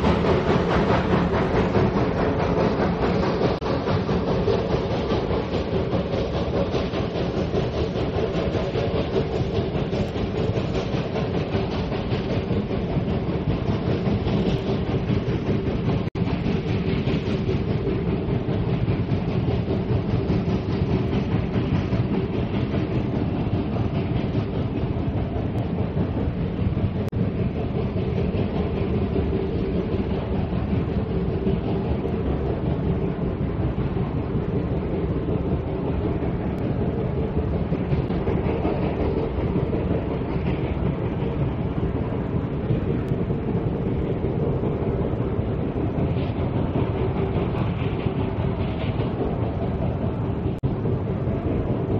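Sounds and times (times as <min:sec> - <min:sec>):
train wheels clickety-clack on rail: 0:00.0 - 0:51.9.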